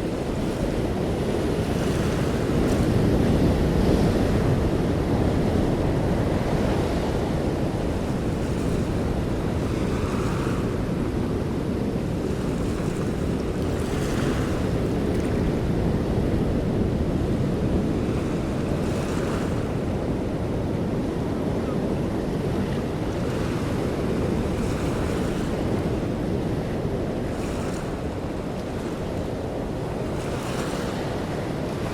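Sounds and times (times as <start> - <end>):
wind and waves rushing: 0.0 - 31.9.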